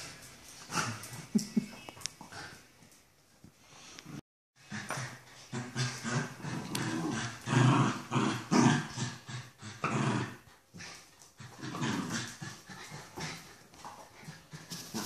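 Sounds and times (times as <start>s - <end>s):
dogs growling while playing: 0.0s - 1.4s, 4.0s - 15.0s.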